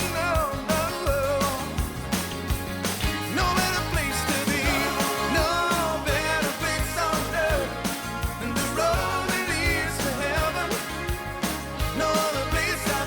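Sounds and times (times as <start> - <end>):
upbeat rock song: 0.0 - 13.0.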